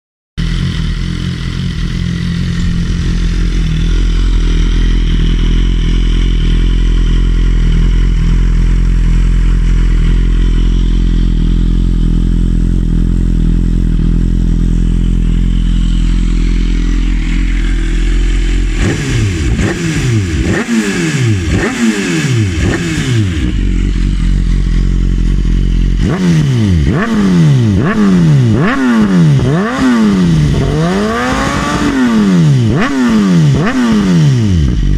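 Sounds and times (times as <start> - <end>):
engine throttle blips: 0.4 - 34.9
motorcycle engine idling: 0.4 - 34.9.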